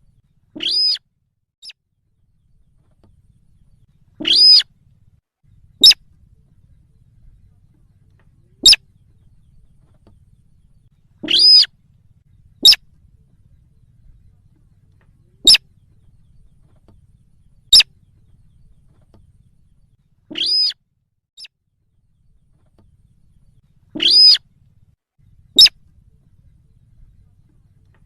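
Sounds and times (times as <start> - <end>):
bird calls from recording: 0.0 - 1.0, 1.6 - 20.8, 22.1 - 28.0.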